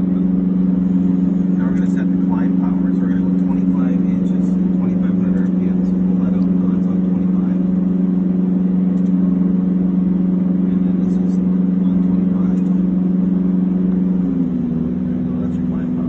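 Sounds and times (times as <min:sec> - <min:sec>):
aircraft piston engine droning: 0:00.0 - 0:16.0.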